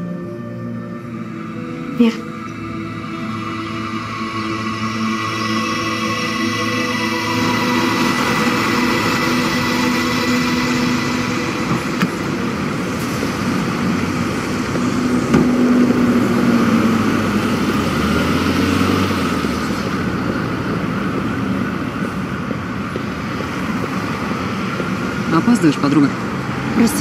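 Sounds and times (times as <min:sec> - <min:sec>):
cars and trucks passing: 0:00.0 - 0:27.0
heavy vehicle going by: 0:00.0 - 0:27.0.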